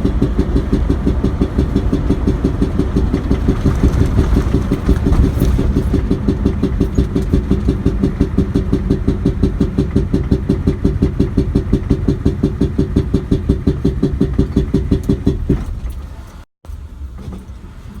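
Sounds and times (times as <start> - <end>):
diesel engine idling with knock: 0.0 - 18.0.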